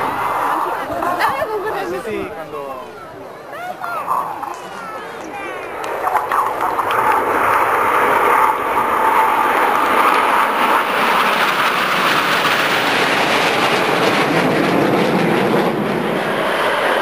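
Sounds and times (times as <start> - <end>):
jet engines passing overhead: 0.0 - 17.0.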